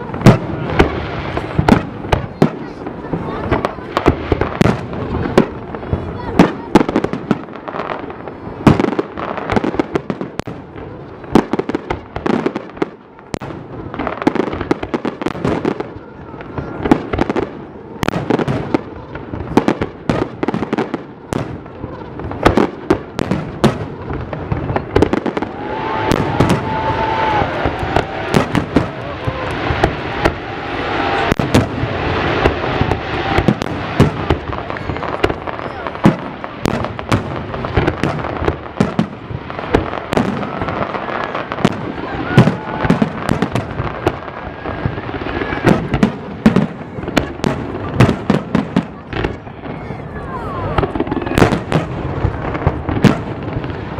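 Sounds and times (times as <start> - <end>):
fireworks bangs: 0.0 - 53.9
fireworks crackle and rumble: 0.0 - 53.9.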